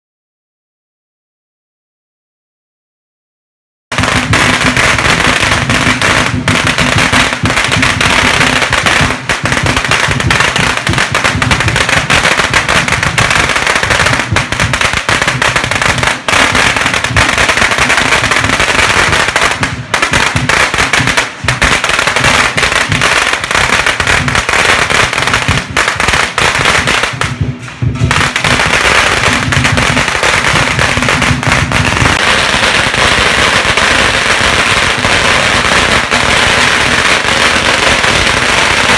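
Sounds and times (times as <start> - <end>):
firecrackers going off: 3.9 - 38.9.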